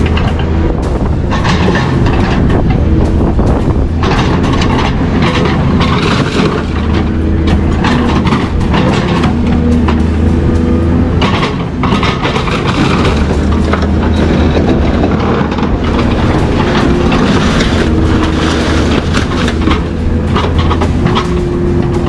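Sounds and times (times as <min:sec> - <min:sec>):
low mechanical hum: 0:00.0 - 0:22.0
metal clanking and rattling: 0:00.0 - 0:22.0.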